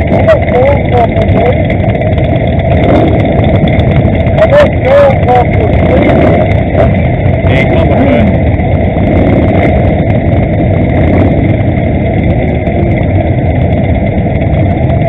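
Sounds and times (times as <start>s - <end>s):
motorcycles idling: 0.0s - 15.0s.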